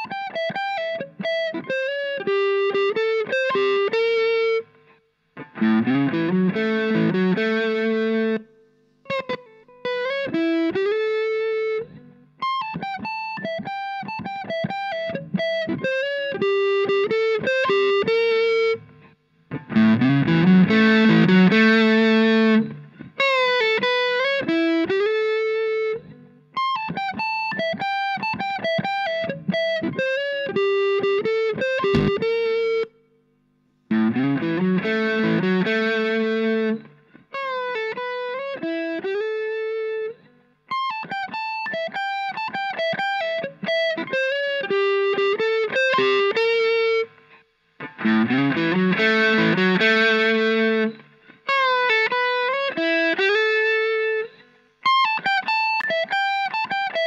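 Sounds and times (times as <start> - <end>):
overdriven electric guitar lead: 0.0 - 8.5, 9.1 - 32.3, 33.9 - 40.1, 40.7 - 57.0.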